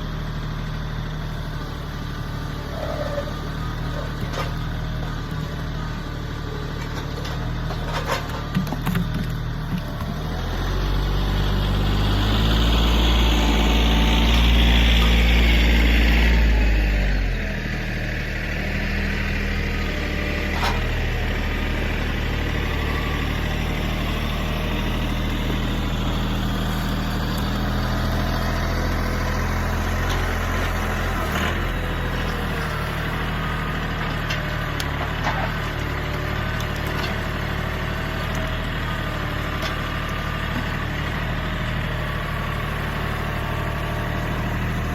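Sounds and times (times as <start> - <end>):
tractor diesel engine working hard: 0.0 - 44.9.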